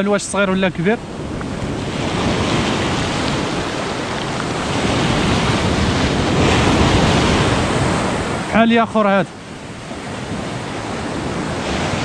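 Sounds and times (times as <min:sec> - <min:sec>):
sea surf washing over shore: 0:00.0 - 0:12.0
wave breaking: 0:00.0 - 0:12.0.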